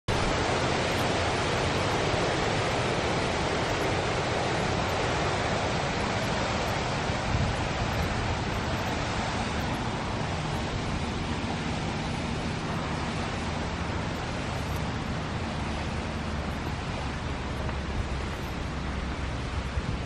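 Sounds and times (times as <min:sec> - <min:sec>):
water rushing along a channel: 0:00.1 - 0:20.0.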